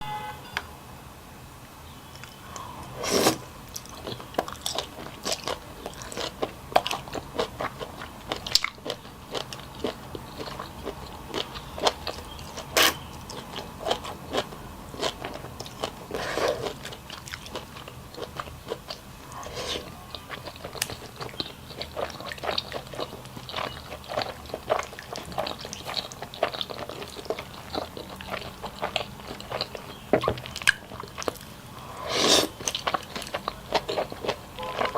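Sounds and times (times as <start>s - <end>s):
person chewing and crunching: 2.2s - 34.9s.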